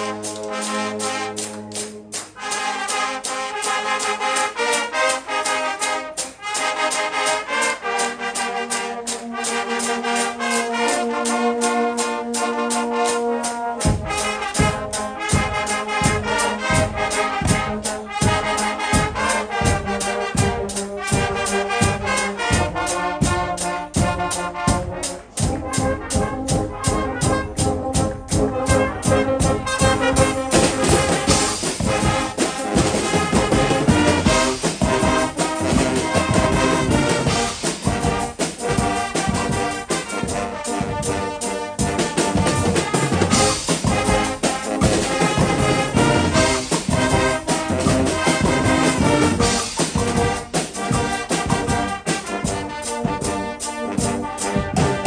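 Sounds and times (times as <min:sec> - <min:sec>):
brass band playing: 0:00.0 - 0:55.0
drum kit steady beat: 0:00.0 - 0:55.0.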